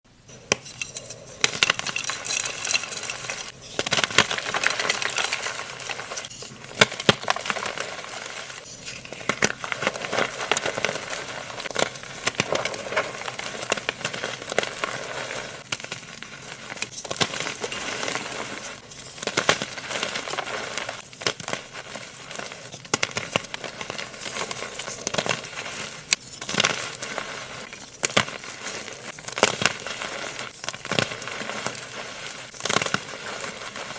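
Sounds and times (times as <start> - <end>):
concrete mixing crackling and scraping: 0.3 - 33.9.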